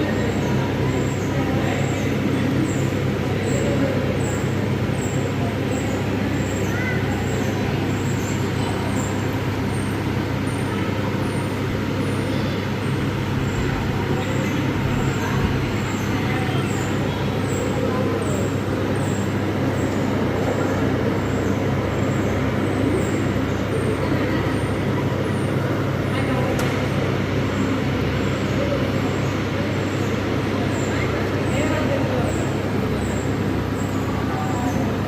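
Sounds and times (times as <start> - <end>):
people's voices: 0.0 - 35.0
rumbling background noise: 0.0 - 35.0.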